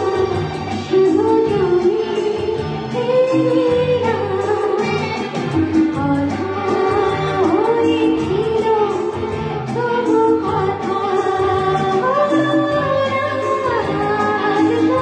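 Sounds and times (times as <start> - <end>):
instrumental accompaniment with beat: 0.0 - 15.0
woman singing: 0.0 - 15.0.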